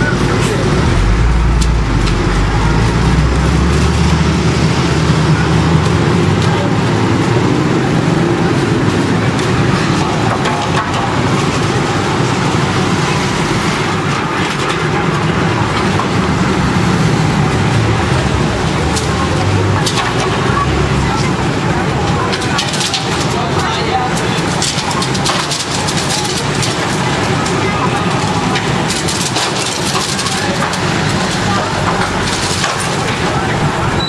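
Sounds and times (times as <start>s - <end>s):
city street traffic: 0.0s - 34.0s
low engine rumble: 0.0s - 34.0s.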